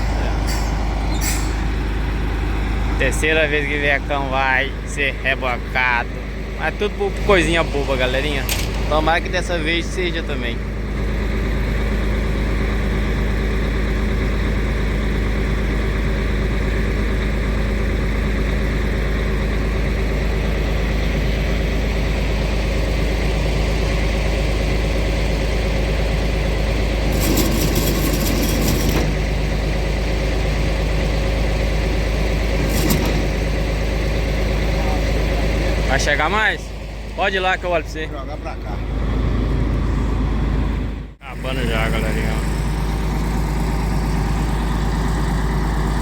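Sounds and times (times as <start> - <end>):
diesel truck engine idling: 0.0 - 46.0.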